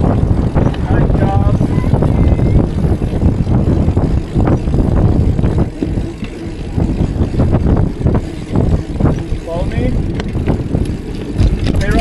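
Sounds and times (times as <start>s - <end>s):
road rumble: 0.0s - 12.0s
wind buffeting microphone: 0.0s - 12.0s.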